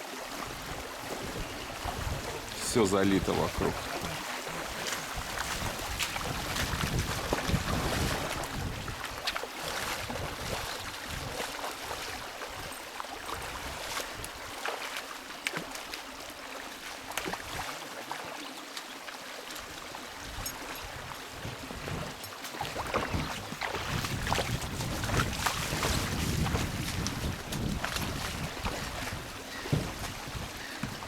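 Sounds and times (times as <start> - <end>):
rushing floodwater: 0.0 - 31.0
small water splashes: 0.0 - 31.0.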